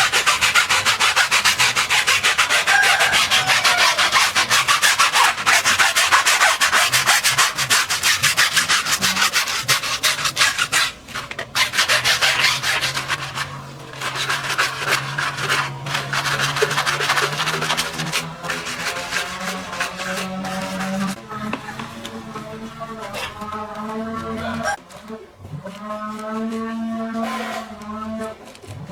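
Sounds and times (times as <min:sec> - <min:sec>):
hand scrubbing: 0:00.0 - 0:24.8.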